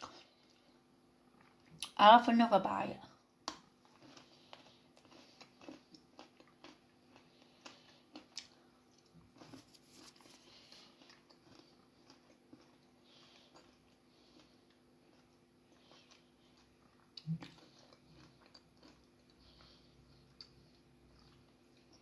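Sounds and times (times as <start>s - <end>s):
crunching and chewing: 3.4s - 22.0s.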